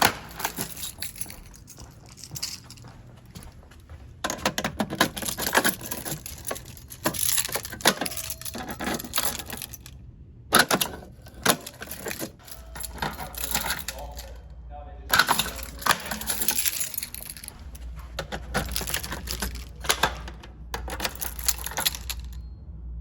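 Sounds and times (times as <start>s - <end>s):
metallic clicks and rattles: 0.0s - 2.8s, 4.3s - 9.9s, 10.5s - 14.5s, 15.1s - 22.5s.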